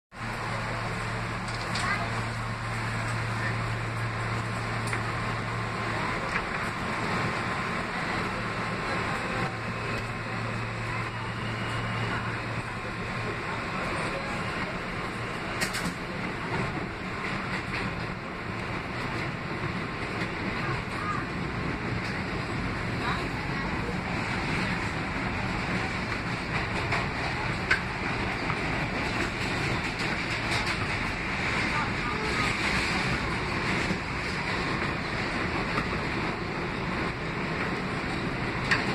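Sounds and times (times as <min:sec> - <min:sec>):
subway wheels rumbling on rail: 0:00.1 - 0:38.9.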